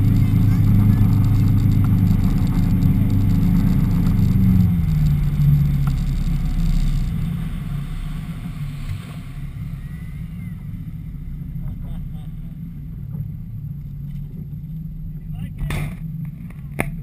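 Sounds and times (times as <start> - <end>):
speedboat engine droning: 0.0 - 17.0.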